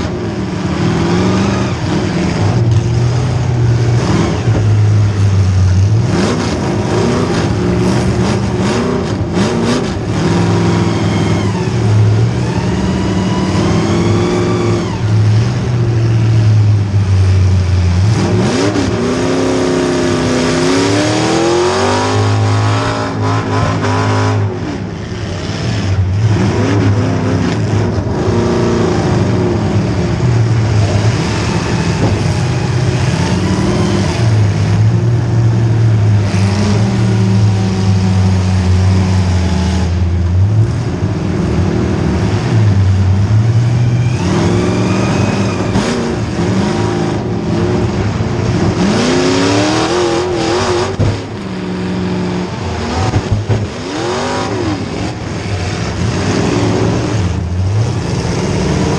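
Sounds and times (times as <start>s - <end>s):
car engine revving hard: 0.0s - 58.9s.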